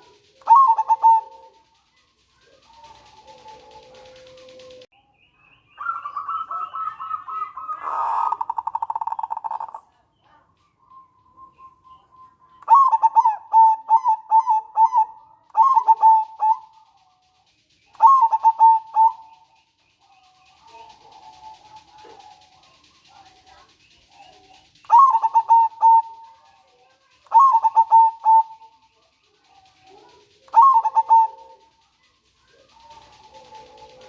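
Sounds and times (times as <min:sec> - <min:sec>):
dove cooing: 0:00.0 - 0:04.9, 0:05.8 - 0:10.5, 0:11.5 - 0:34.0
dove rattling trill: 0:00.0 - 0:04.9, 0:05.8 - 0:34.0.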